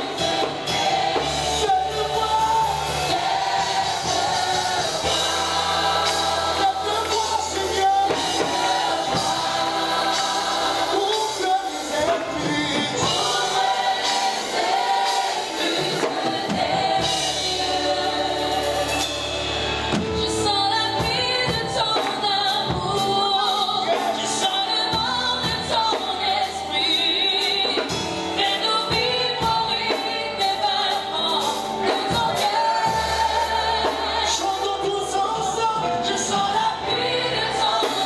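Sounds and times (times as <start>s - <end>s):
band accompaniment: 0.0s - 38.0s
group singing worship song: 0.0s - 38.0s.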